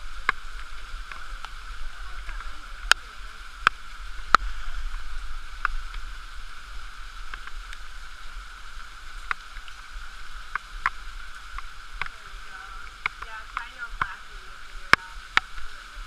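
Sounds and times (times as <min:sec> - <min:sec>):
muffled waterfall rushing: 0:00.0 - 0:16.0.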